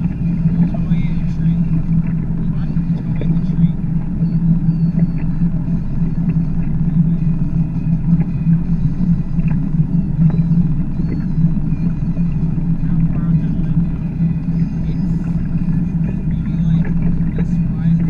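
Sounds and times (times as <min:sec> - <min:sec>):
boat engine droning: 0:00.0 - 0:18.0
wind rumbling on microphone: 0:00.0 - 0:18.0.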